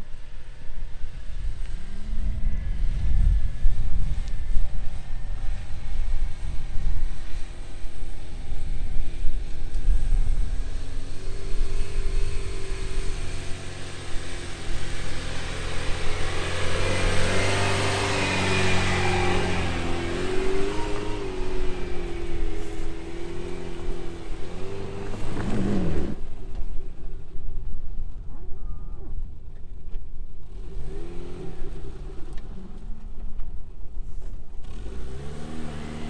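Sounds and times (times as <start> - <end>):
engine running under load: 0.2 - 27.2, 30.4 - 36.0.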